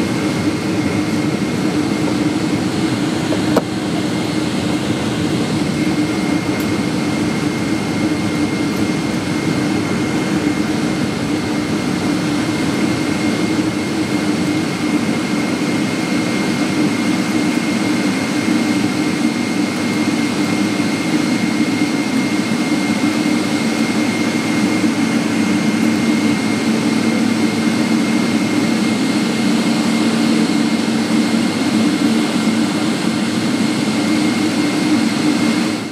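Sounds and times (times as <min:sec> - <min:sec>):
jet engines idling: 0:00.0 - 0:35.9.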